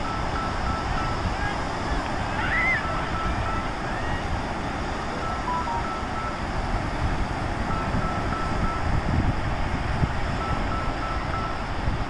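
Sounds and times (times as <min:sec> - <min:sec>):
low rushing outdoor noise: 0:00.0 - 0:12.0.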